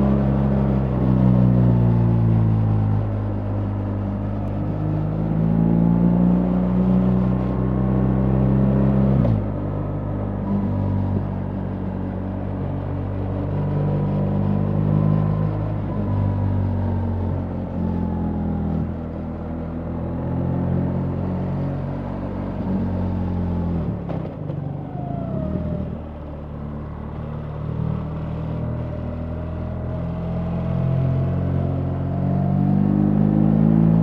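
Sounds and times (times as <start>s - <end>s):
road and wind noise: 0.0s - 34.0s.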